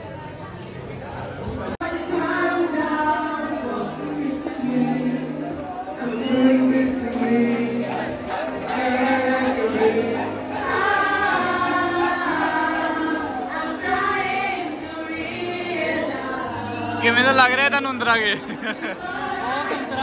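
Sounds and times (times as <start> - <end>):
group singing: 1.8 - 17.1, 18.6 - 20.0
guitar accompaniment: 1.8 - 20.0.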